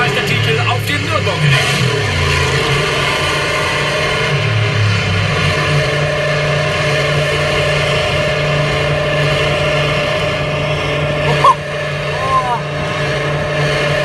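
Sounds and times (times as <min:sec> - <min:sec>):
racing engine at high revs: 0:00.0 - 0:14.0.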